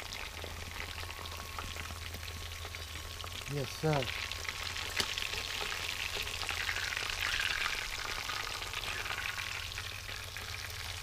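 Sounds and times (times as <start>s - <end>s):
fish fillets frying in oil: 0.0s - 11.0s.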